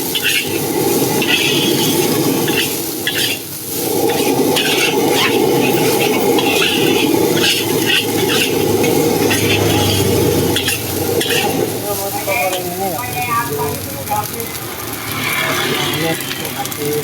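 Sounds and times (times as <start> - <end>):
metal spatula scraping a pan: 0.0 - 13.6, 14.5 - 17.0
rice sizzling in a hot pan: 0.0 - 17.0.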